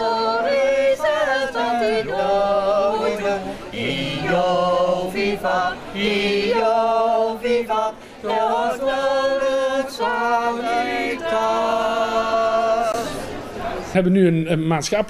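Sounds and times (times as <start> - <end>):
vocal group singing held notes: 0.0 - 13.4.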